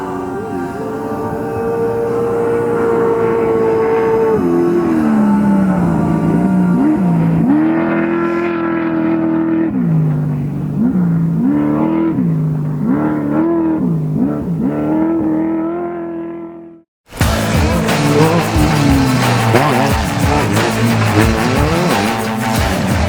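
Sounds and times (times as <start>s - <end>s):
race vehicle engine revving: 0.0s - 23.0s.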